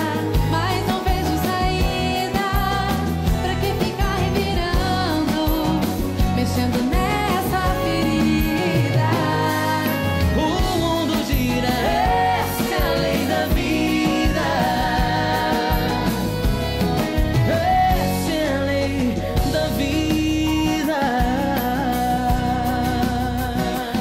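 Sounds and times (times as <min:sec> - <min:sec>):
live band music with steady beat: 0:00.0 - 0:24.0.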